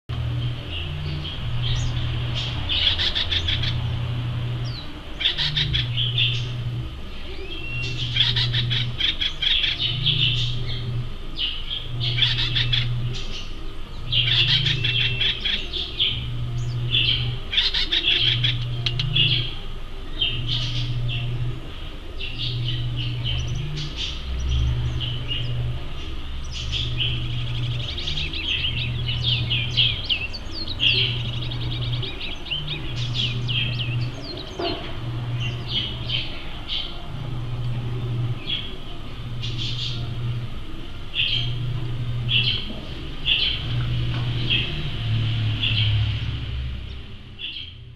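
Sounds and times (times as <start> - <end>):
pulsing low hum: 0.0 - 47.9
woodpecker calling: 0.4 - 47.9.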